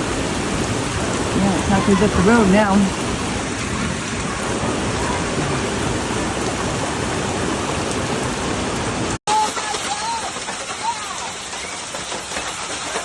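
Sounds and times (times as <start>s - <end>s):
rushing water from heavy rain: 0.0s - 13.0s.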